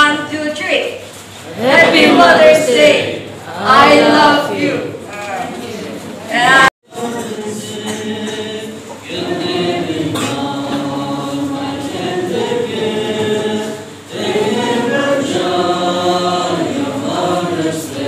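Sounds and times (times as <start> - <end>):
congregation singing: 1.4 - 18.0.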